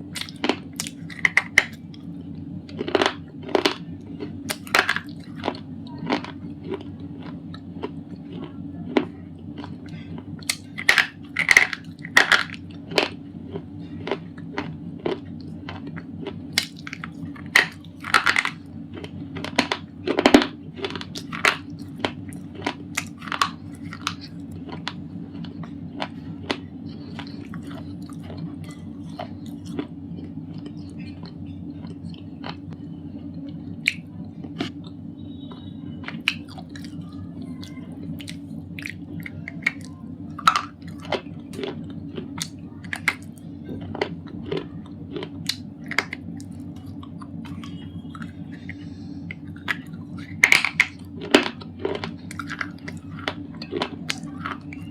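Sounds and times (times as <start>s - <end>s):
crisp crunching bites: 0.1s - 1.9s, 2.7s - 32.6s, 38.2s - 54.9s.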